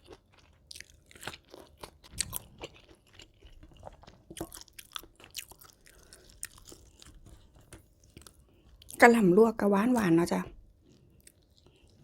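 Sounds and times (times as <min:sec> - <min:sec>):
chewing crunchy vegetables: 0:00.0 - 0:09.2, 0:09.9 - 0:12.0.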